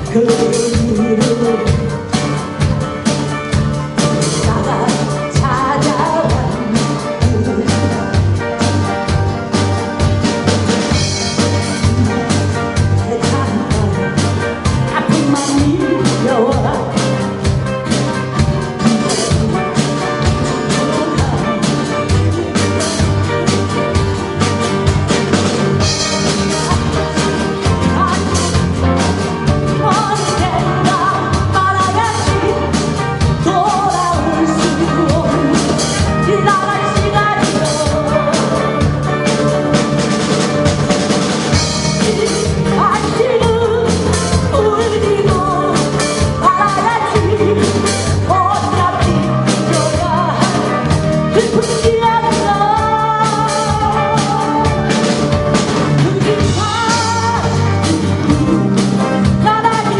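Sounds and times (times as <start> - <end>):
person singing: 0.0 - 2.8, 3.7 - 9.7, 11.2 - 39.7, 41.6 - 59.9
rock band playing live: 0.0 - 59.9.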